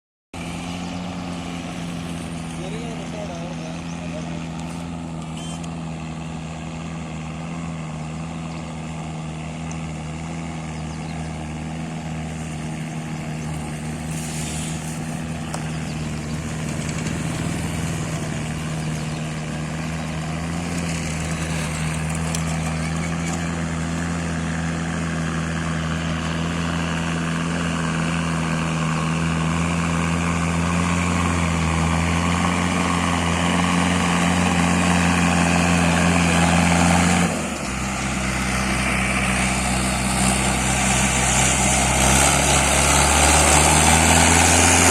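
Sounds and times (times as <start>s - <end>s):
tractor diesel engine running: 0.4s - 44.9s.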